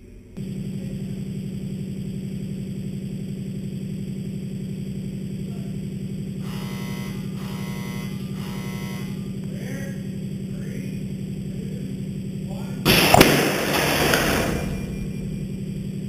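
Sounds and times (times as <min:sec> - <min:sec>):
machine buzzing hum: 0:00.2 - 0:16.0.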